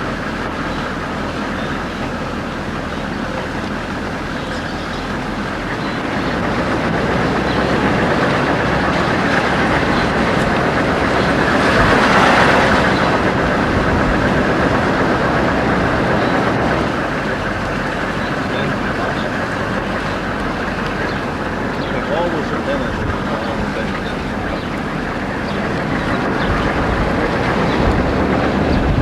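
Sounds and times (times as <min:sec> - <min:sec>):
vehicle road and engine noise: 0:00.0 - 0:29.0.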